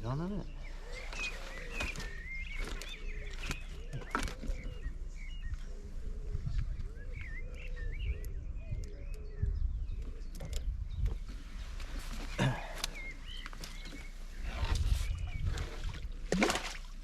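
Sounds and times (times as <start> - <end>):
low wind rumble: 0.0 - 16.4
birds calling: 0.0 - 17.0.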